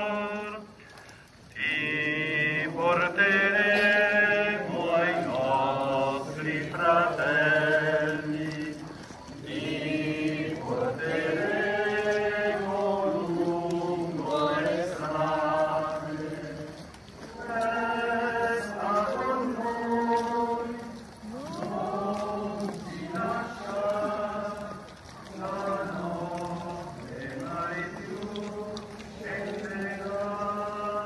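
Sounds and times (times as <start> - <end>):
voices singing a hymn: 0.0 - 31.0.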